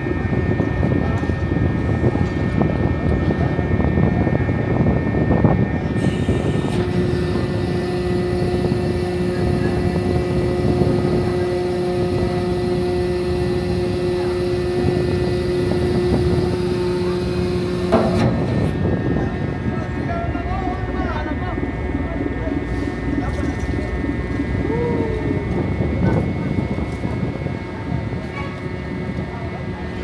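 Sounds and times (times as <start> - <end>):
ferry engine low rumble: 0.0 - 30.0
steady hum: 0.0 - 30.0.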